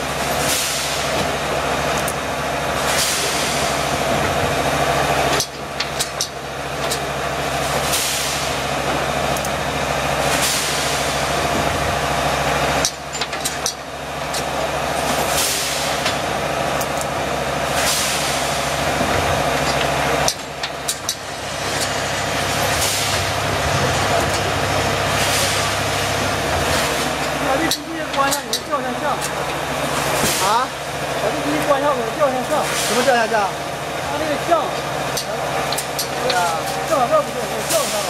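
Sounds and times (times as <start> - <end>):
machine motor hum: 0.0 - 38.0.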